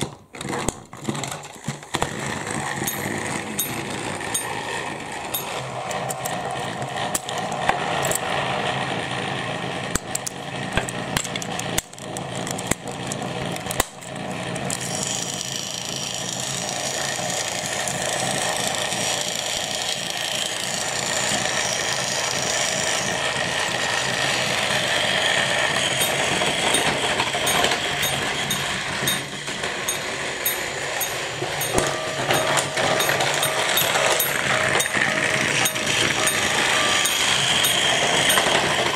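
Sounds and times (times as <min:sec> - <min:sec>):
toy train motors whirring: 0:00.4 - 0:38.9.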